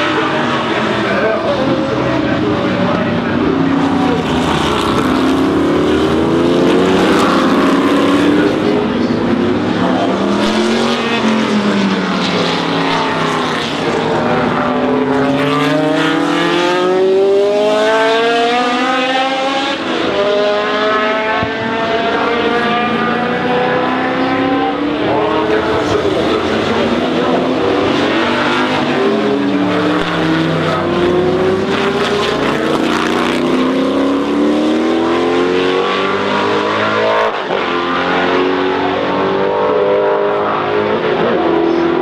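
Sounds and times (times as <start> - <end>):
race car engines accelerating past: 0.0 - 42.0.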